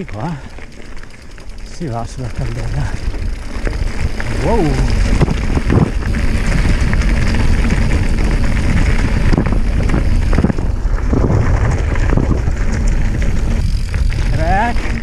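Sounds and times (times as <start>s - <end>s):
bike rattling and knocking: 0.0s - 15.0s
tyres rumbling on dirt: 0.0s - 15.0s
wind buffeting microphone: 1.3s - 15.0s.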